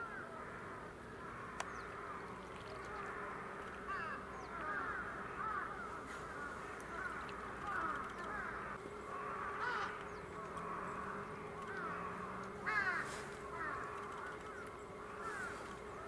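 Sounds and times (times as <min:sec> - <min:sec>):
faint steady hum: 0:00.0 - 0:16.0
waterbirds calling in chorus: 0:00.0 - 0:16.0.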